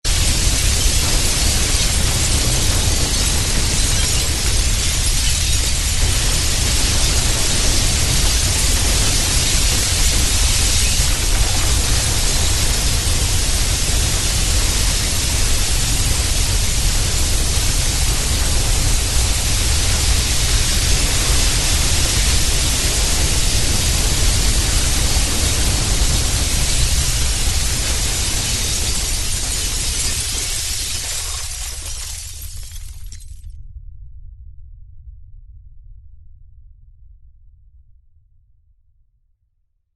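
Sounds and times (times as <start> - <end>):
deep earthquake rumble: 0.0 - 38.8
bright hiss: 0.1 - 32.6.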